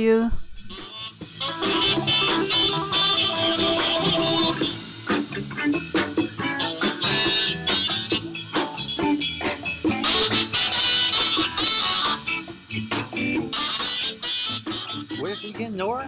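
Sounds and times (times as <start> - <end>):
drums and hand drums: 0.0 - 16.0
electric guitars: 1.2 - 15.1.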